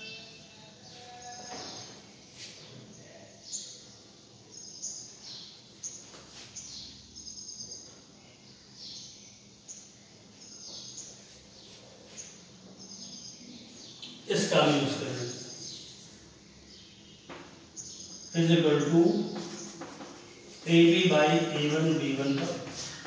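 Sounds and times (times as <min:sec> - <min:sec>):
faint bird chirps: 0:00.0 - 0:20.9.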